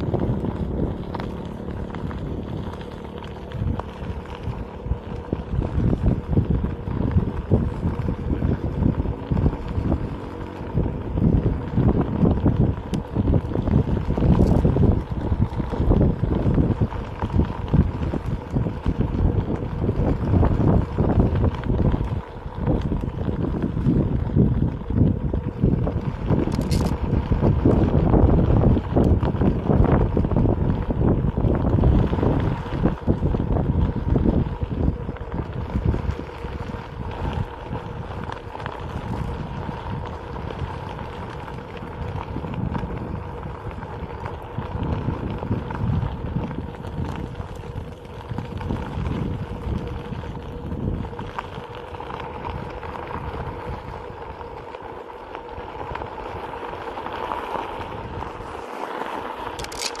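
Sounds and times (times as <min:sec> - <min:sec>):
board wheel rumbling over gravel: 0:00.0 - 1:00.0
wind buffeting microphone: 0:00.0 - 1:00.0.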